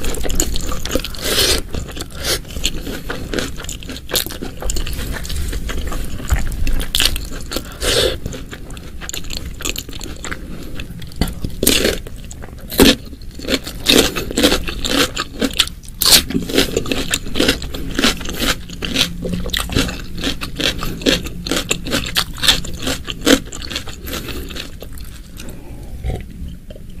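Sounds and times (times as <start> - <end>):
chewing and crunching: 0.0 - 27.0.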